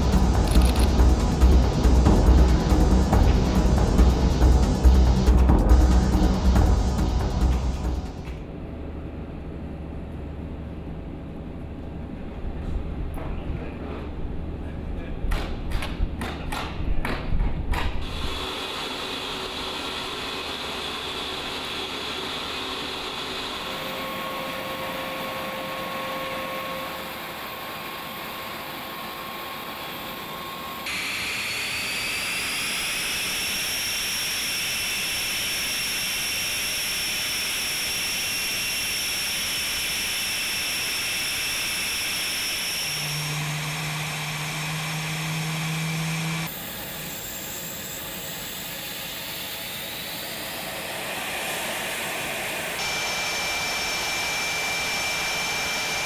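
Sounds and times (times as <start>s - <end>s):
jet engine turbine whine: 0.0s - 15.2s, 16.9s - 56.0s.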